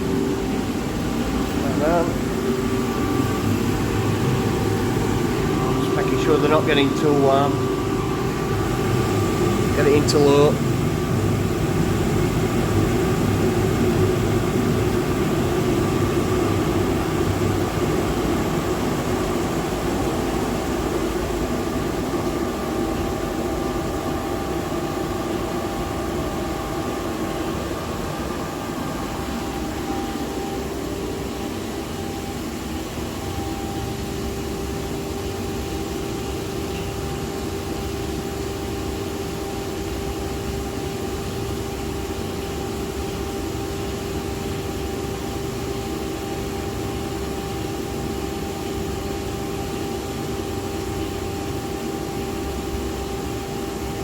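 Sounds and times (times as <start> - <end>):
boiler burner and fan roaring: 0.0 - 54.0.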